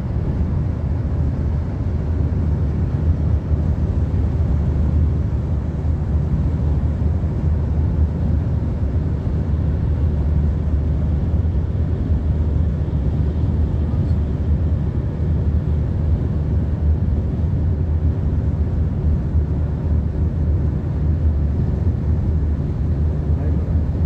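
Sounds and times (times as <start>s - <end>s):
vehicle road and engine rumble: 0.0s - 24.0s.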